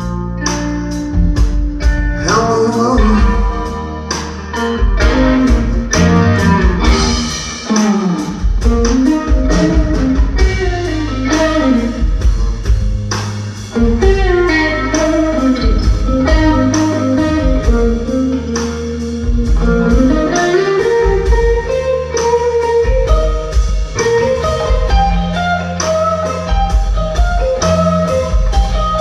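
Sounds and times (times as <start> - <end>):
drum kit: 0.0 - 29.0
electric bass: 0.0 - 29.0
electric guitar lead: 0.0 - 29.0.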